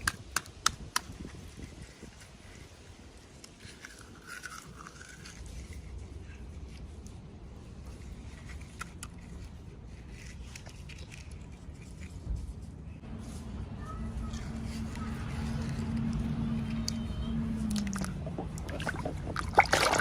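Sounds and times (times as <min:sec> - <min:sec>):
low steady hum: 0:03.8 - 0:20.0.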